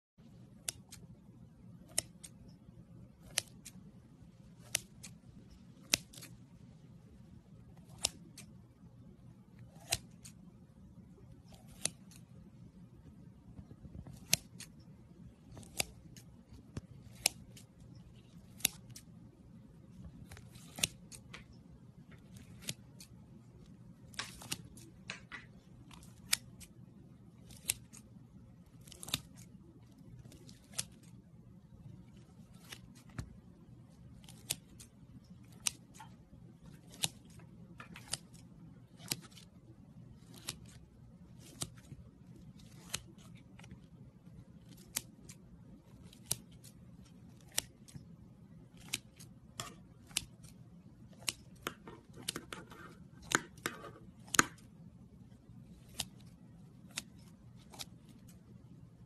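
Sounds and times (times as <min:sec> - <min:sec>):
scissors snipping: 0:00.2 - 0:06.8, 0:07.6 - 0:08.9, 0:09.5 - 0:19.2, 0:19.9 - 0:31.2, 0:31.8 - 0:58.5
faint low hum: 0:00.2 - 0:59.0.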